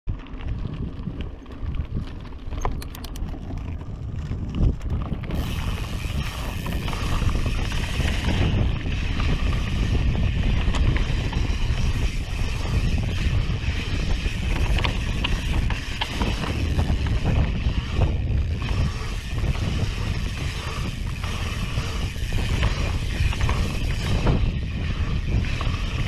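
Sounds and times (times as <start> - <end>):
bike tyre rumble on gravel: 0.1 - 26.0
wind buffeting microphone: 0.1 - 26.0
bike frame rattle: 1.2 - 26.0.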